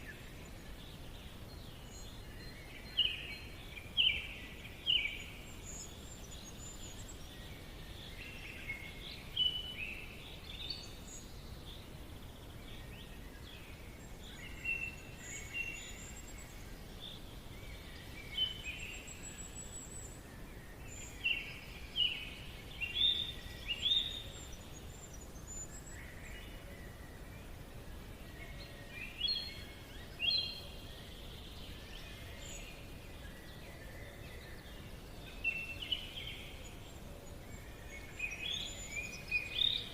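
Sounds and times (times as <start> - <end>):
birds chirping and trilling: 0.0 - 39.9
low background hiss: 0.0 - 39.9.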